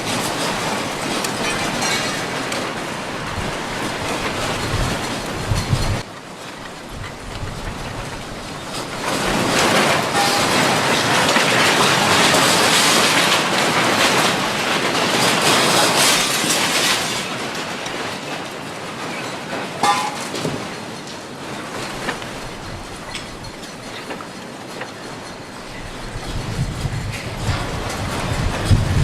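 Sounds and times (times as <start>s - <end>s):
earthquake rattling and rumbling: 0.0s - 29.0s.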